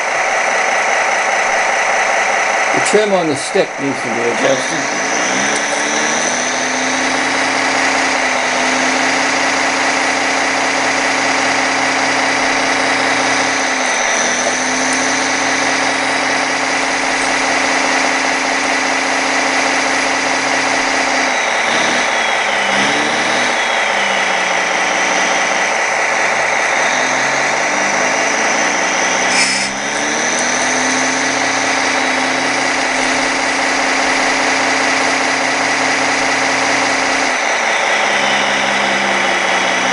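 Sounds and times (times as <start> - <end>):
simulated diesel engine idling: 0.0 - 39.9
steady high whine: 0.0 - 39.9.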